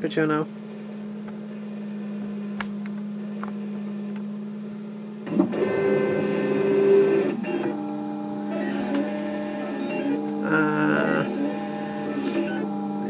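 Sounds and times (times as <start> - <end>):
printer hum: 0.0 - 13.0
stepper motors whining: 2.5 - 13.0.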